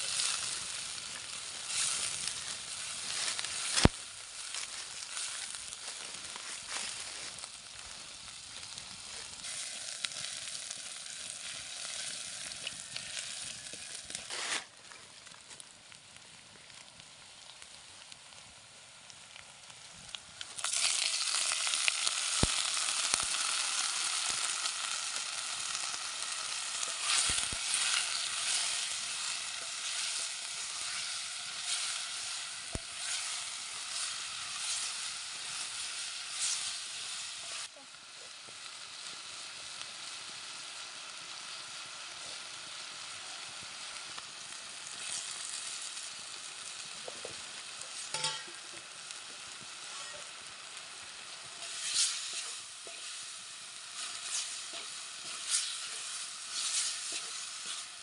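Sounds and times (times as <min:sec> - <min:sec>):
chicken sizzling in oil: 0:00.0 - 0:58.0.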